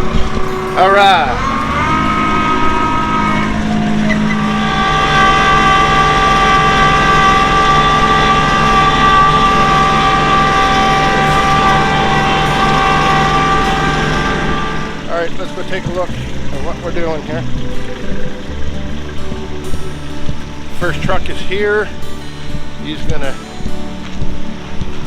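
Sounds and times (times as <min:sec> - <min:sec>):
drivetrain and road whine: 0:00.0 - 0:25.0
truck engine hum: 0:00.0 - 0:25.0.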